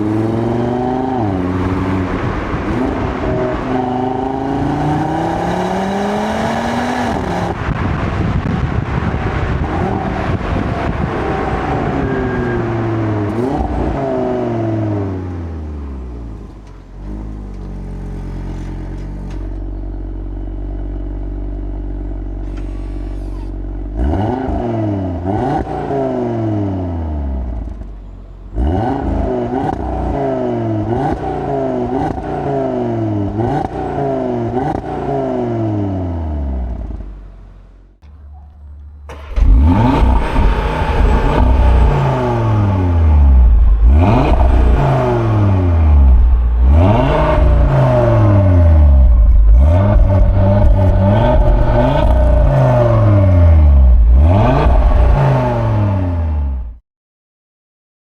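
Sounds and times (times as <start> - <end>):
car engine revving: 0.0 - 56.8.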